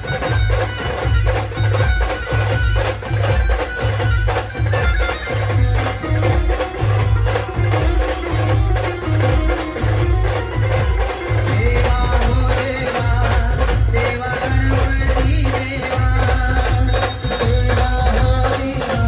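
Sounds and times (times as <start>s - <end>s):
heavy bass drum beat: 0.0s - 19.0s.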